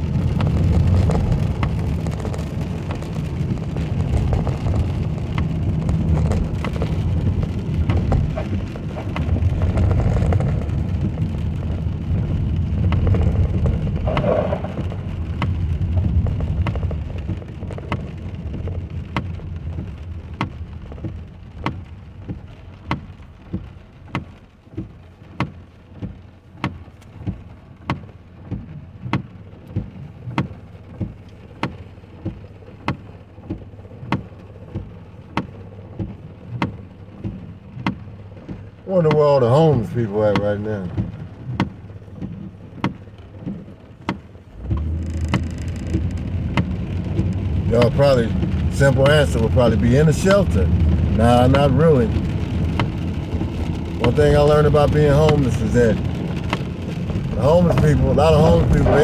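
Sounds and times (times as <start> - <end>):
rain on car: 0.0 - 59.0
road and engine rumble: 0.0 - 59.0
turn signal ticking: 0.0 - 59.0.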